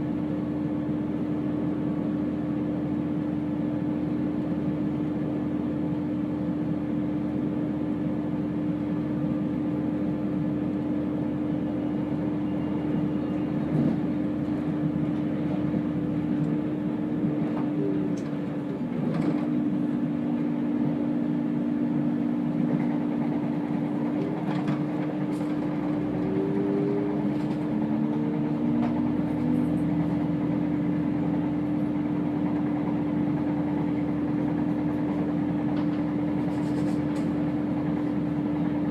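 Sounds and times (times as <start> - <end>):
diesel train droning: 0.0 - 38.9.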